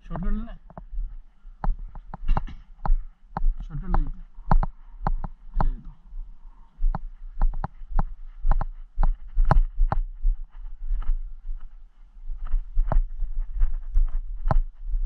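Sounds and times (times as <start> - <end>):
footsteps on dirt path: 0.1 - 15.0.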